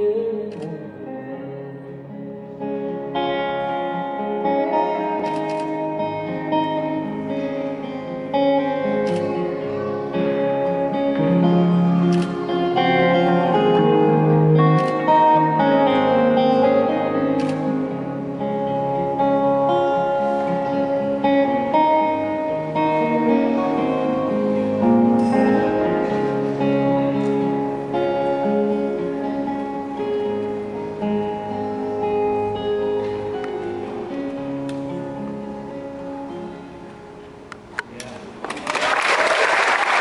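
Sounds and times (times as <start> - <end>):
acoustic guitar playing: 0.0 - 38.4
electric guitar playing: 0.0 - 38.4.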